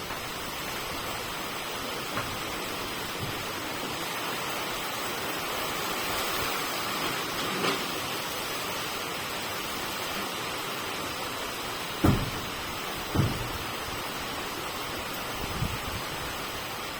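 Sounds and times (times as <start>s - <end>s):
rushing wind: 0.0s - 16.9s.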